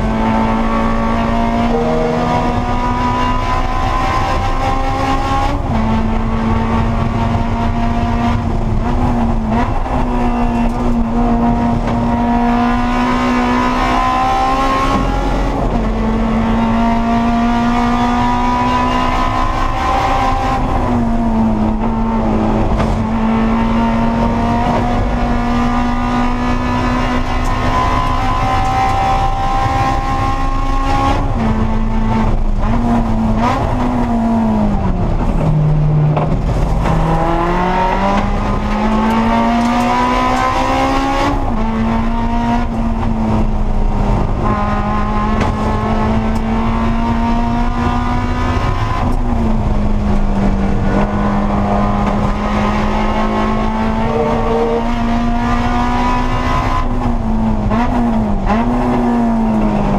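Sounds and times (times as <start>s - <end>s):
race car engine: 0.0s - 59.9s
wind and road noise: 0.0s - 59.9s.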